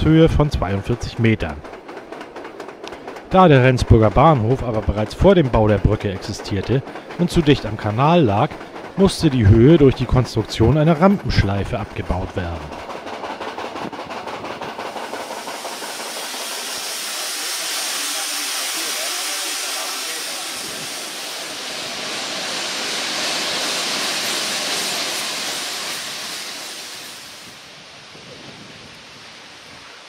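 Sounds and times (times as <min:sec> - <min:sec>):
train wheels clicking on rail joints: 0:00.0 - 0:27.7
steam hissing loudly: 0:03.4 - 0:30.0.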